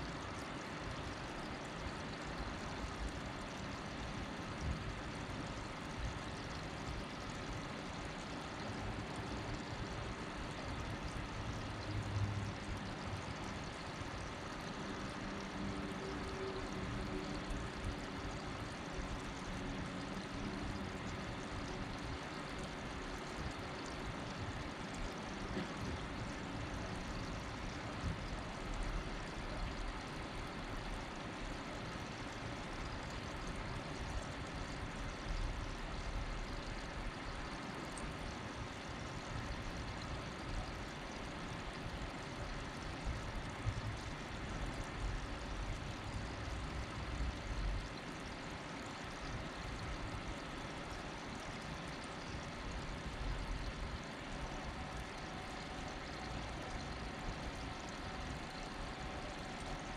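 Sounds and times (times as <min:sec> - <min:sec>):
low rumble and hiss: 0:00.0 - 0:59.9.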